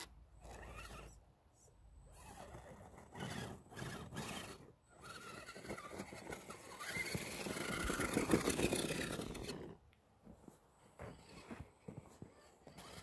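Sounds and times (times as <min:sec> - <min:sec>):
toy truck motor whining: 0:00.0 - 0:01.2, 0:02.1 - 0:09.8, 0:11.1 - 0:13.0.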